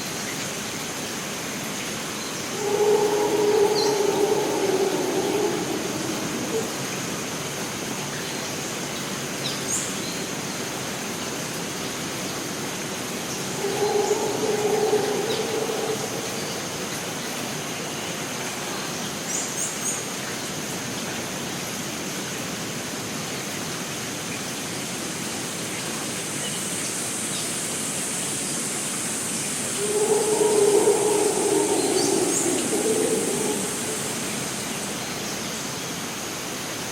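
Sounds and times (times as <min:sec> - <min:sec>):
rushing water: 0:00.0 - 0:36.9.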